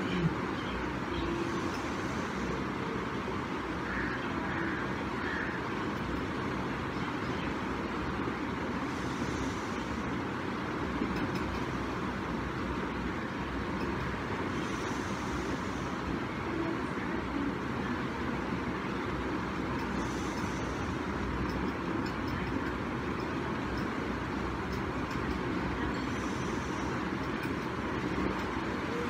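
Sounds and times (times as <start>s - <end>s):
steady hiss and hum: 0.0s - 29.0s.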